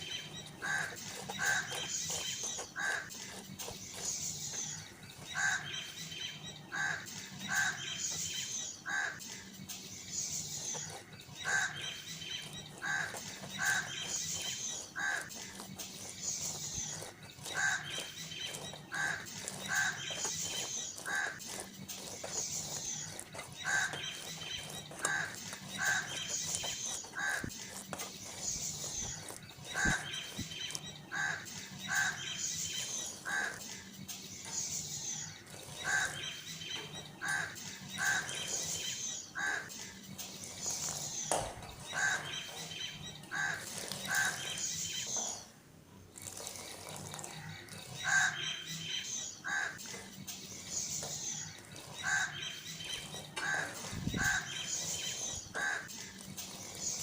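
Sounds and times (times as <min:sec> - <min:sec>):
bird calls: 0:00.0 - 0:45.6, 0:46.2 - 0:57.0.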